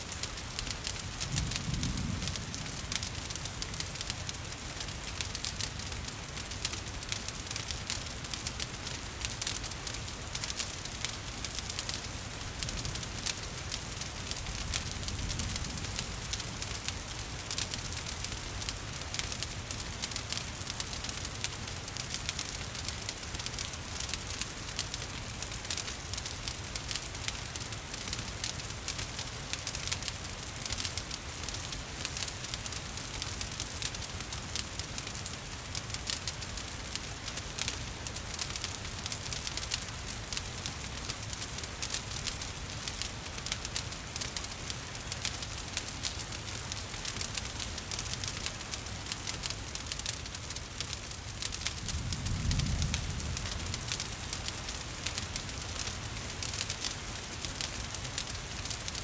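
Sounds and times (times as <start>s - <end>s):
rain pattering: 0.0s - 59.0s
wood fire crackling: 0.0s - 59.0s.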